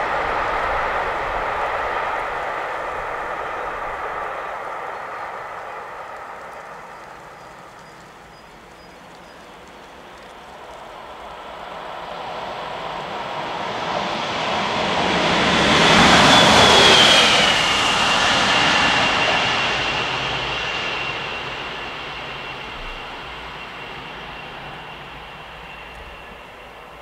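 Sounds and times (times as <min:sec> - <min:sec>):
electric locomotive passing: 0:00.0 - 0:27.0.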